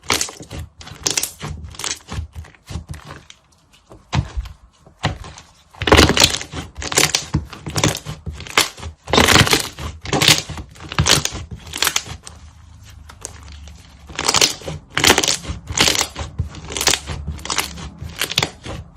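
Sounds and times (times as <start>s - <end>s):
slime squishing by hand: 0.0s - 18.9s.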